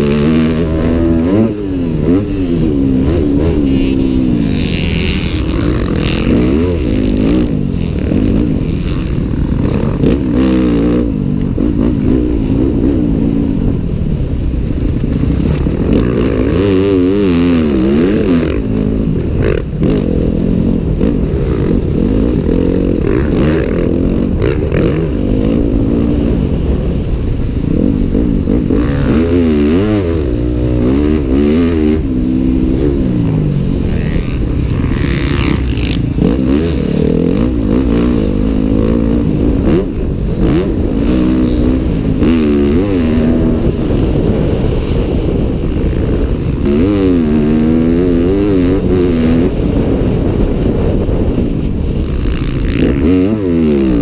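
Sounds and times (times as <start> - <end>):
motocross engine revving: 0.0 - 13.9, 14.6 - 27.0, 27.7 - 50.8, 51.9 - 54.0.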